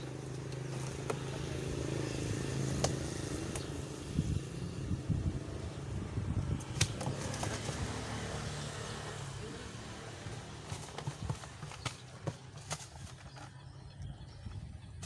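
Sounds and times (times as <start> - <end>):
small engine humming: 0.0 - 13.7.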